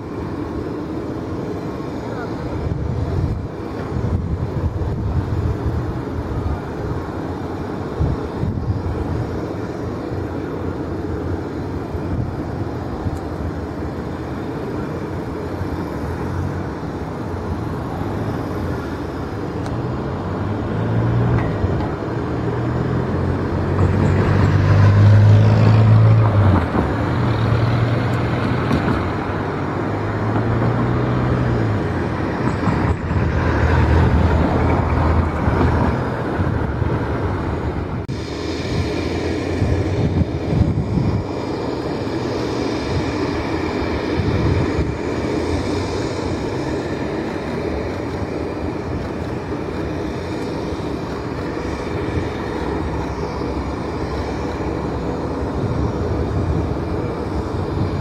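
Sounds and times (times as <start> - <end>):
jet engines taxiing: 0.0 - 58.0.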